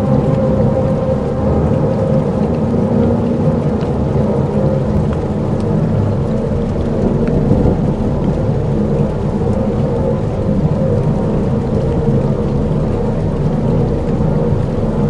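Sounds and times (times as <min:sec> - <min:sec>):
deep thunder-like rumble: 0:00.0 - 0:15.0
rain-like hiss: 0:00.0 - 0:15.0.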